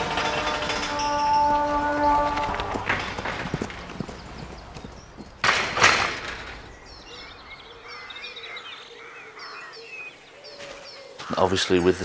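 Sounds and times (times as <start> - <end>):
birds chirping and calling: 2.0 - 12.0.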